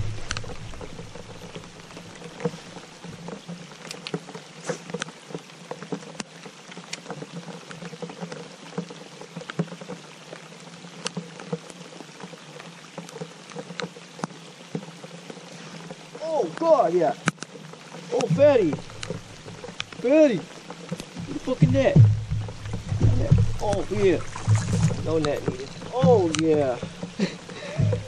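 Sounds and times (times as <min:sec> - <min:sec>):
rain hissing: 0:00.0 - 0:28.0
raindrop taps: 0:00.0 - 0:28.0.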